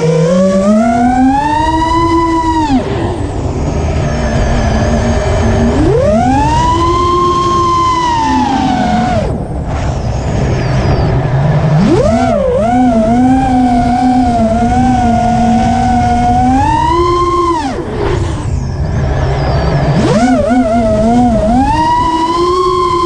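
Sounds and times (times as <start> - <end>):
drone motors whining: 0.0 - 23.0
low rushing noise: 0.0 - 23.0.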